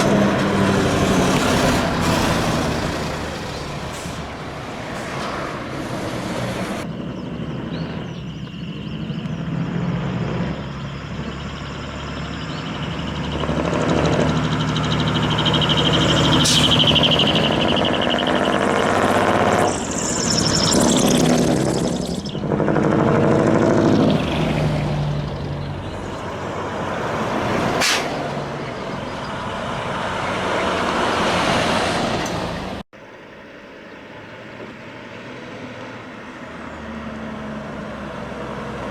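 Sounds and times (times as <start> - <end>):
loud diesel trucks passing: 0.0 - 38.9.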